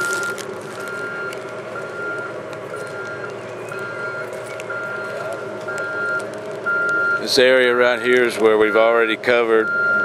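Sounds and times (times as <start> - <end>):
reversing alarm beeping: 0.0 - 10.0.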